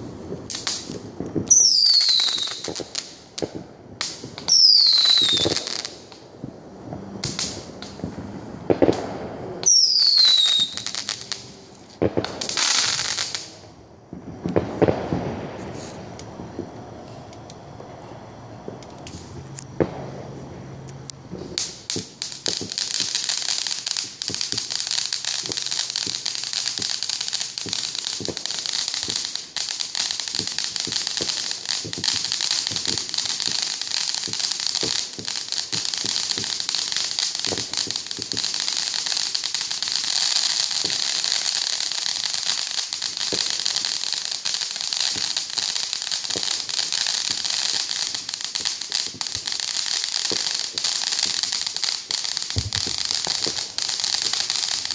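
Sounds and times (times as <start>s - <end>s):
fireworks pops: 0.0s - 17.9s, 18.6s - 20.1s, 20.8s - 54.9s
fireworks crackling: 0.0s - 54.9s.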